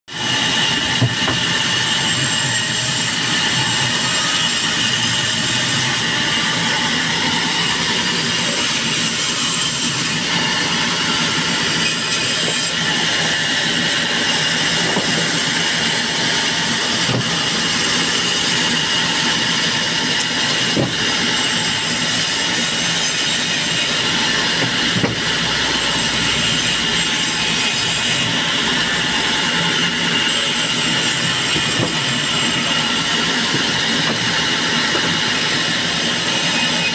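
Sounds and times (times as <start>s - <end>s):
band saw cutting logs: 0.1s - 36.9s.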